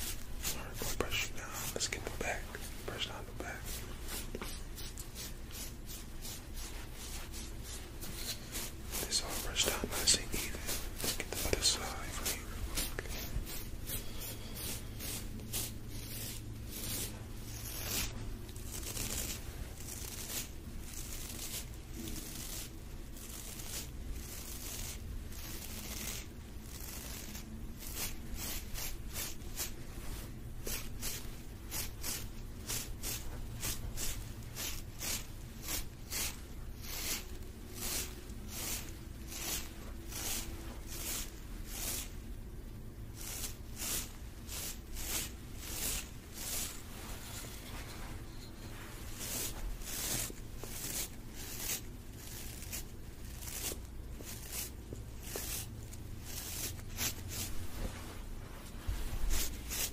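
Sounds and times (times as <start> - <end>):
fabric rubbing on microphone: 0.0 - 59.9
steady low hum: 0.0 - 59.9.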